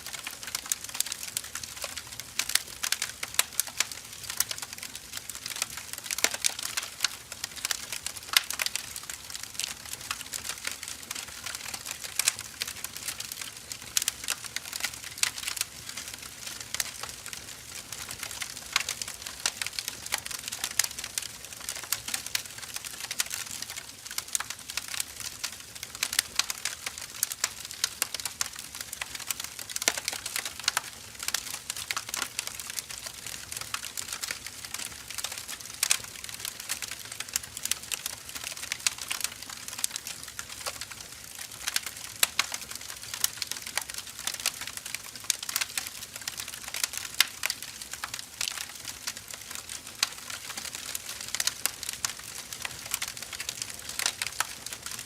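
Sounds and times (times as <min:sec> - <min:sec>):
firewood crackling with pops: 0:00.0 - 0:55.0.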